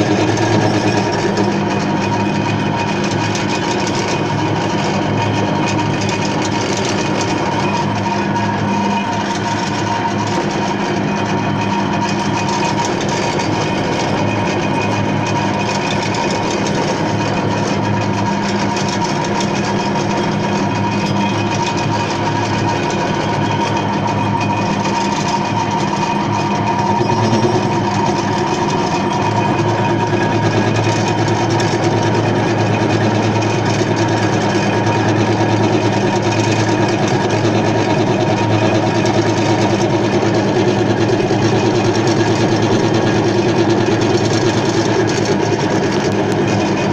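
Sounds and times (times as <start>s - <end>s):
lathe motor humming and whirring: 0.0s - 46.9s.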